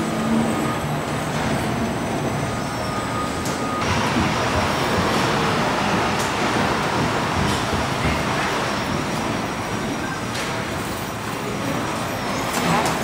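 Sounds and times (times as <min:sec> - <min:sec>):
machinery hum and hiss: 0:00.0 - 0:13.0.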